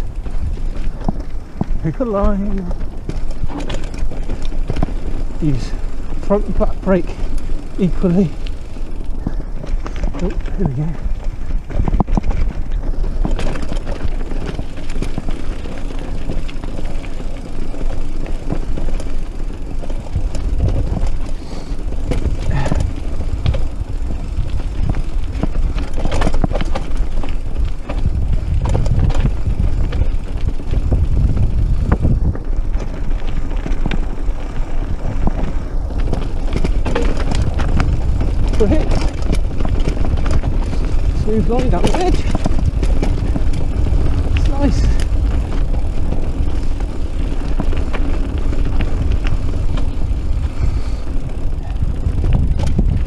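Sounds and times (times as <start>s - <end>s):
bike rattling and knocking: 0.0s - 53.0s
tyres on loose ground: 0.0s - 53.0s
wind rumble on microphone: 0.0s - 53.0s.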